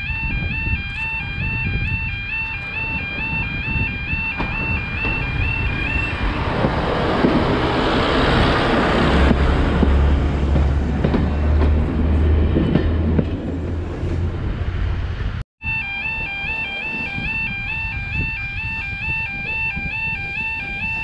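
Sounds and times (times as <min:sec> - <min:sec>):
train passing: 0:01.2 - 0:21.0.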